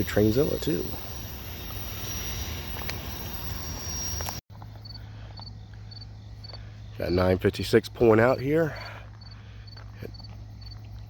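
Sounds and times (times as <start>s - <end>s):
rushing outdoor noise: 0.0s - 10.6s
insects chirping: 0.0s - 11.0s.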